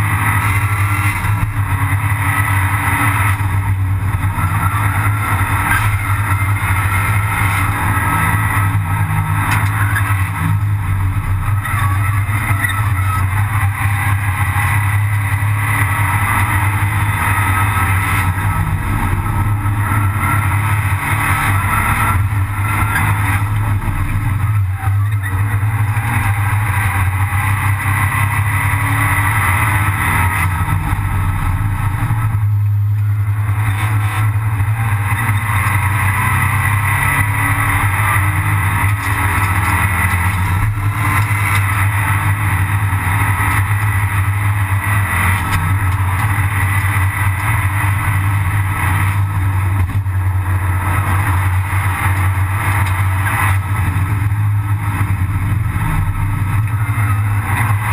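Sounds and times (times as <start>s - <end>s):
race car engine running hard: 0.0s - 57.9s
road and wind noise: 0.0s - 57.9s.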